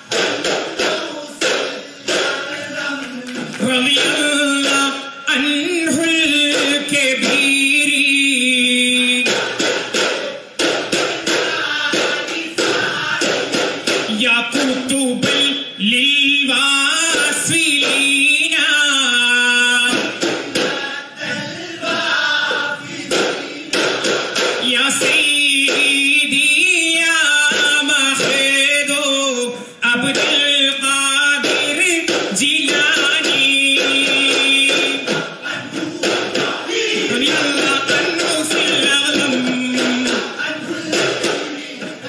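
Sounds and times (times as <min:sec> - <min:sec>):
frame drums struck in rhythm: 0:00.0 - 0:42.0
men singing together: 0:00.0 - 0:42.0.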